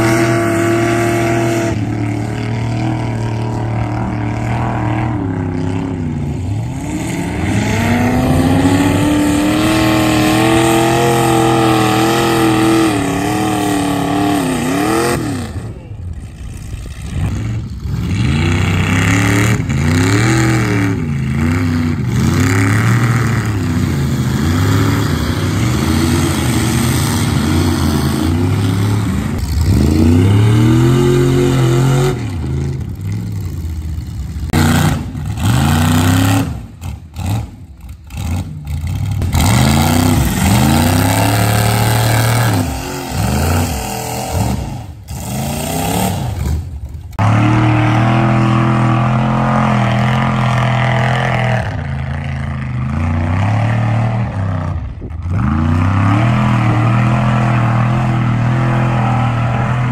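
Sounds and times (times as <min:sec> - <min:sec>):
pickup truck engine revving: 0:00.0 - 0:59.9.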